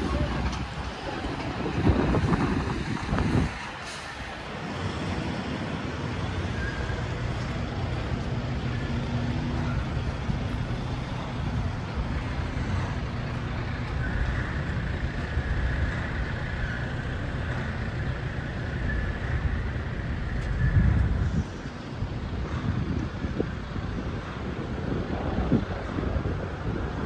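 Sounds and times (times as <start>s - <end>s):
passing cars: 0.0s - 27.0s.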